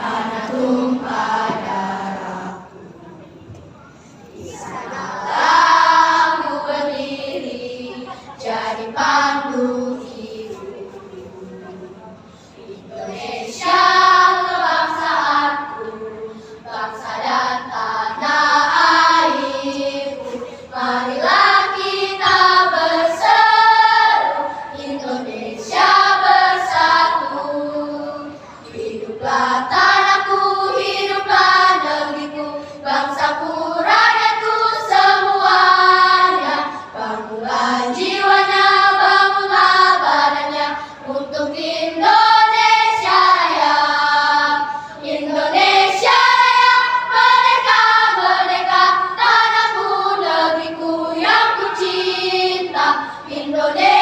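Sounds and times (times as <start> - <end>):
choir singing: 0.0 - 3.0, 4.4 - 11.9, 12.6 - 54.0.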